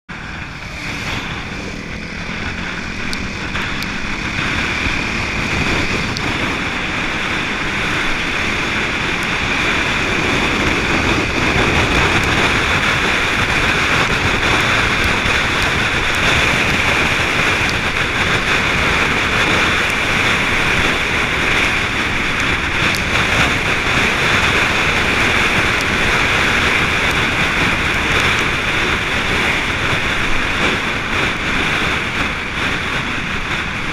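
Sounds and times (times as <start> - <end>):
wind and road noise: 0.1 - 33.9.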